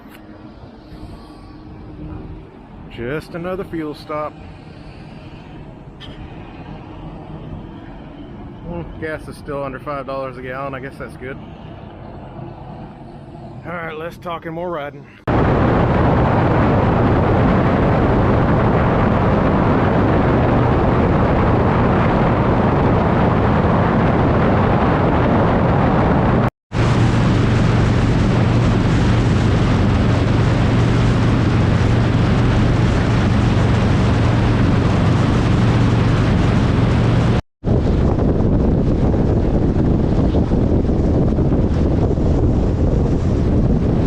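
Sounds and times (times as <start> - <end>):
wind rushing on microphone: 0.0 - 44.0.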